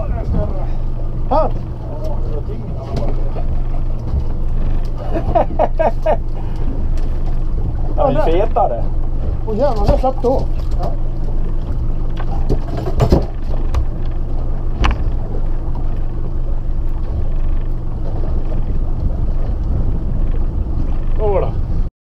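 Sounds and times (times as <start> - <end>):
boat engine humming: 0.0 - 21.9.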